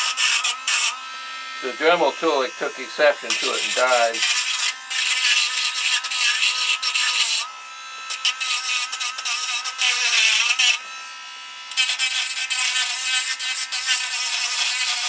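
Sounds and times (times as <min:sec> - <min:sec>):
bit grinding metal: 0:00.0 - 0:10.9, 0:11.7 - 0:15.0
rotary grinder whining: 0:00.0 - 0:15.0.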